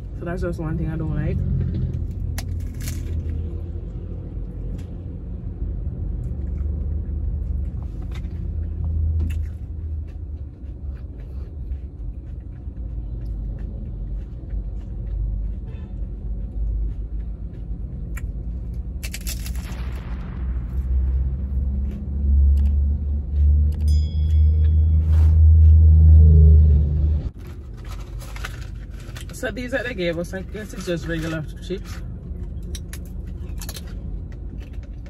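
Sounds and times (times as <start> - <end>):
taco shell being chewed: 1.6 - 20.4, 21.5 - 24.0, 27.4 - 35.0.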